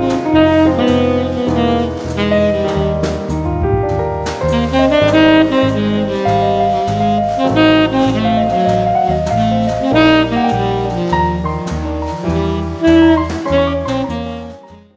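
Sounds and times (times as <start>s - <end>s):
steady drum beat: 0.0s - 14.4s
saxophone: 0.0s - 14.9s
walking bass: 0.0s - 14.9s.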